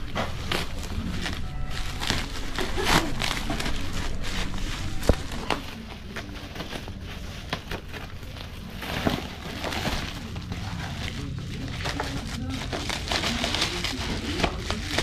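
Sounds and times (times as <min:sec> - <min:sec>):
plastic pouch crinkling: 0:00.0 - 0:15.0.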